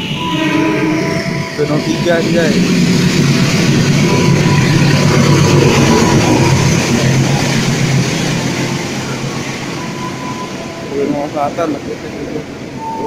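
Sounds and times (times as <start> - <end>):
diesel locomotive engine passing: 0.0 - 13.0
passenger coaches rolling past: 0.0 - 13.0.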